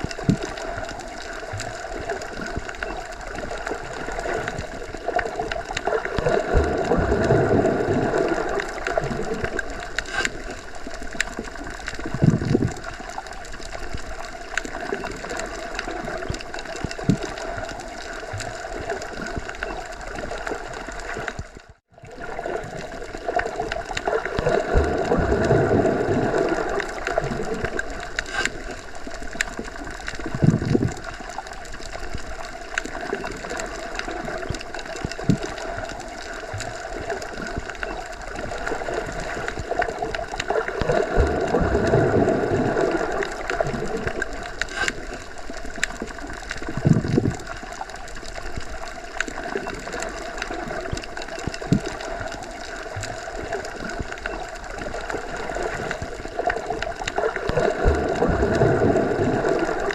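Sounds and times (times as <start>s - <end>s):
muffled underwater water noise: 0.0s - 59.9s.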